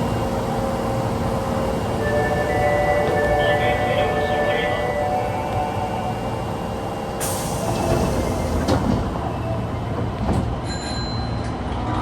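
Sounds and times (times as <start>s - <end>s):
subway car wheels rumbling: 0.0s - 12.0s.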